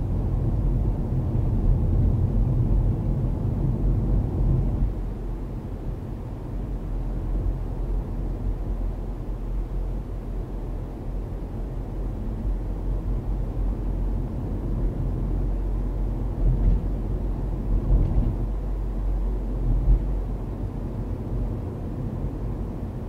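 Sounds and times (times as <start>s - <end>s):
car tyres and engine rumble: 0.0s - 23.0s.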